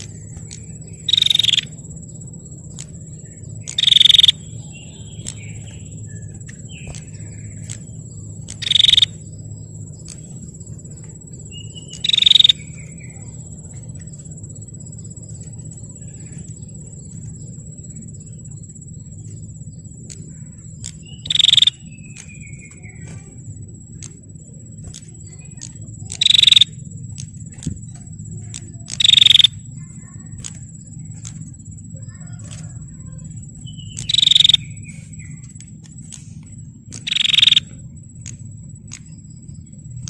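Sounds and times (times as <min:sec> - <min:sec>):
bird buzzy calls: 0:00.0 - 0:40.0
low hum: 0:00.0 - 0:40.0
steady high-pitched whine: 0:00.0 - 0:40.0.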